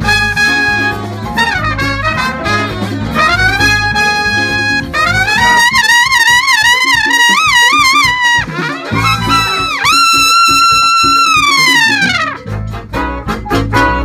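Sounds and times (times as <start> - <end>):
brass horns sliding notes: 0.0 - 14.0
high wavering trumpet line: 0.0 - 14.0.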